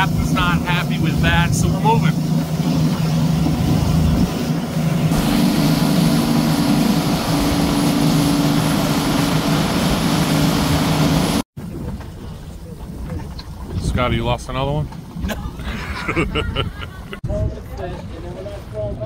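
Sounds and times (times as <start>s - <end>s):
boat engine drone: 0.0s - 17.2s
rush of wind and water: 0.0s - 19.0s.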